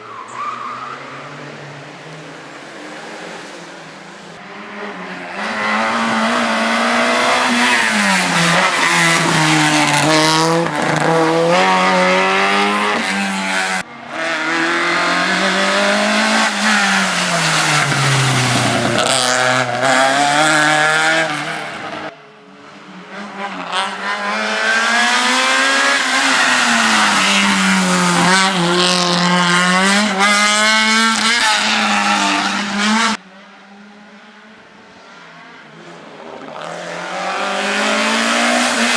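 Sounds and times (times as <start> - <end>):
race car engine revving: 1.4 - 22.1, 22.9 - 34.2, 35.8 - 38.9.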